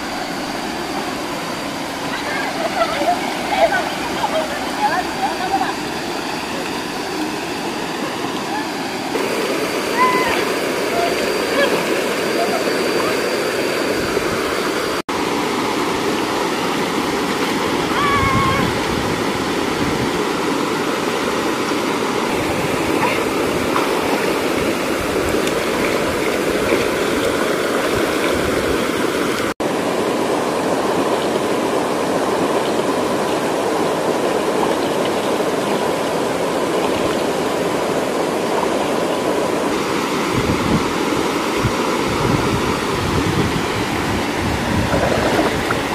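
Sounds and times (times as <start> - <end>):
waterfall rushing into pool: 0.0 - 45.9.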